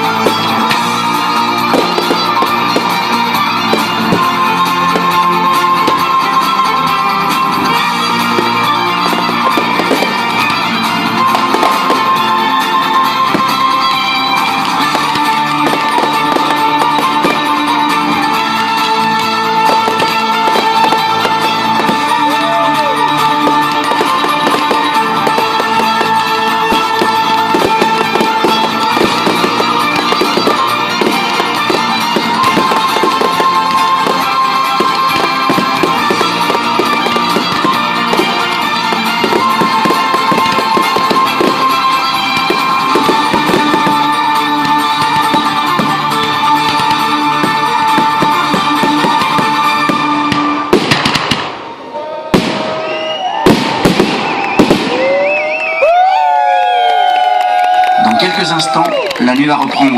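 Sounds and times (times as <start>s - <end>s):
guitar and strings music: 0.0s - 51.3s
firework whistle: 0.0s - 58.0s
fireworks banging and crackling: 0.0s - 59.9s.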